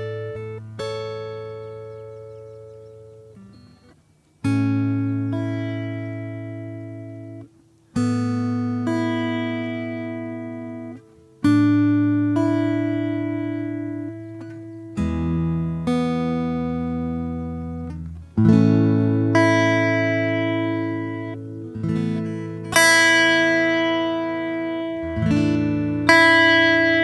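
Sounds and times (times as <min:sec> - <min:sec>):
acoustic guitar chords: 0:00.0 - 0:27.0.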